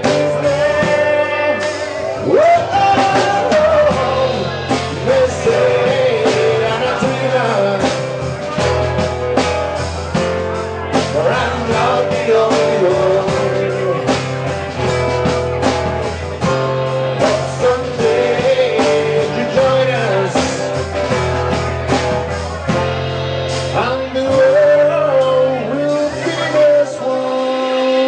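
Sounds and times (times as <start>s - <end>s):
man singing: 0.0s - 8.8s, 10.1s - 22.0s, 23.6s - 28.0s
drum kit beat: 0.0s - 28.0s
strummed acoustic guitars: 0.0s - 28.0s.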